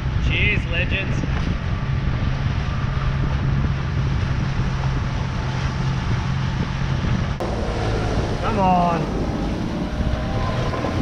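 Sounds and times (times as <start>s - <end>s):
outboard motor humming: 0.0s - 11.0s
water rushing past hull: 0.0s - 11.0s
wind buffeting the microphone: 0.0s - 11.0s.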